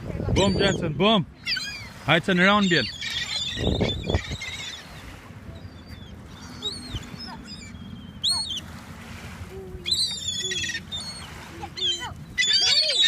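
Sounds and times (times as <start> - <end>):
gulls calling: 0.0 - 13.0.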